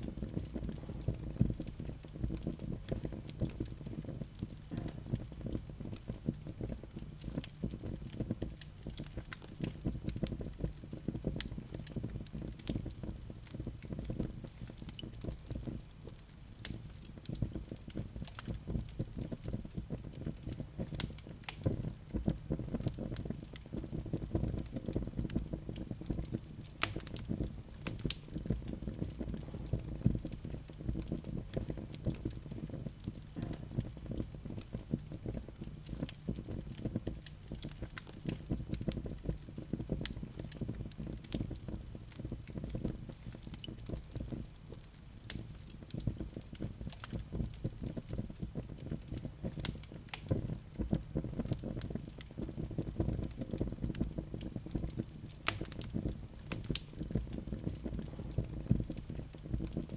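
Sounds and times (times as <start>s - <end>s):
fire popping: 0.0s - 59.9s
low noise of burning: 0.0s - 59.9s
wood fire crackling: 0.0s - 59.9s.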